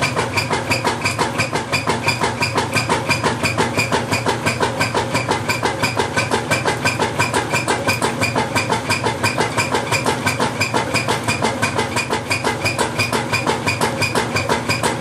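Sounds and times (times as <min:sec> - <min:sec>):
washing machine rapid knocking: 0:00.0 - 0:15.0.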